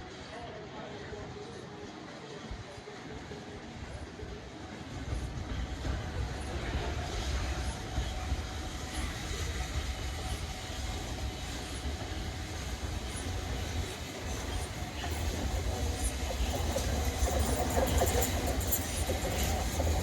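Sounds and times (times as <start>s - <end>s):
train rumbling past on rails: 2.7s - 20.0s.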